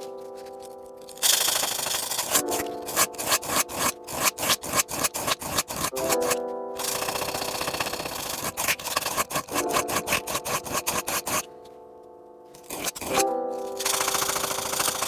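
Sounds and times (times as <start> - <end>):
rapid rubbing strokes: 0.0 - 11.5, 12.6 - 15.0
background music tones: 0.0 - 15.0.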